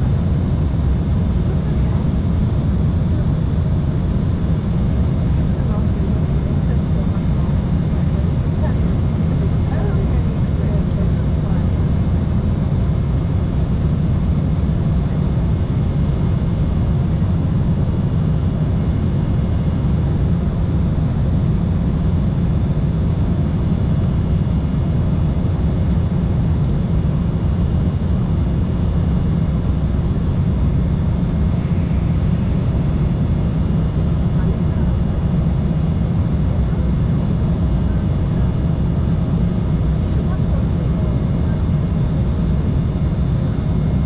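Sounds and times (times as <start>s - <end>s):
jet engine roar with whine: 0.0s - 44.0s.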